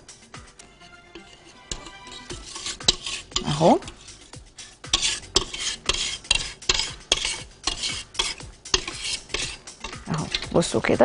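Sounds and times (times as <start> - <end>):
spatula scraping metal bowl: 0.0 - 11.0.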